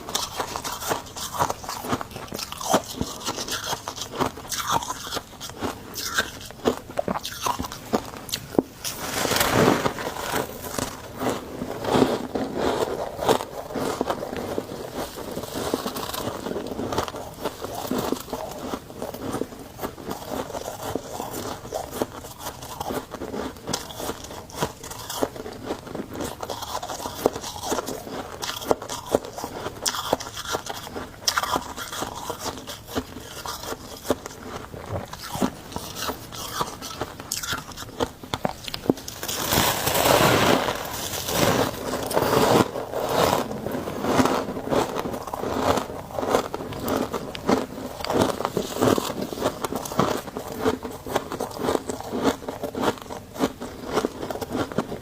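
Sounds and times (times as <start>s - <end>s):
crunching and chewing frost: 0.0s - 55.0s.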